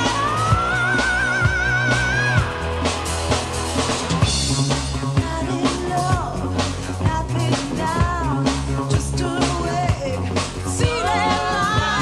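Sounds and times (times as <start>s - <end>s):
live pop-rock band: 0.0s - 12.0s.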